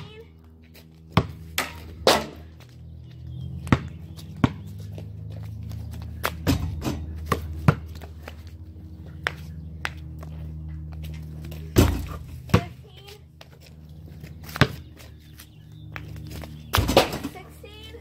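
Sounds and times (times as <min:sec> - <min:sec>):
basketball bouncing on pavement: 0:00.0 - 0:18.0
steady low hum: 0:00.0 - 0:18.0.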